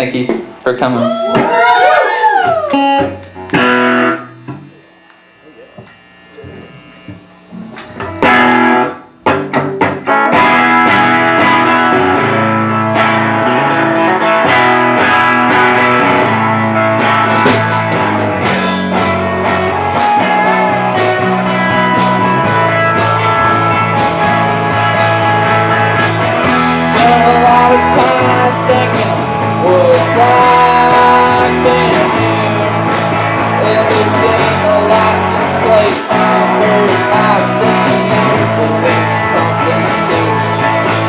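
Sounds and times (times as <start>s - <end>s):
electric guitar: 0.0s - 41.0s
rock band playing: 1.3s - 4.8s, 7.6s - 41.0s.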